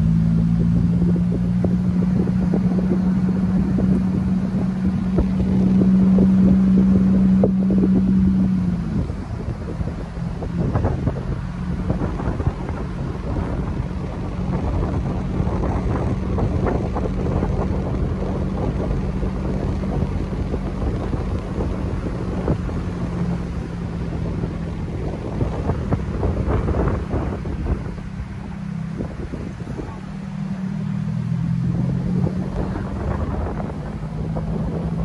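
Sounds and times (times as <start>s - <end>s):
car engine and road hum: 0.0s - 35.0s
wind gusting over microphone: 0.0s - 35.0s.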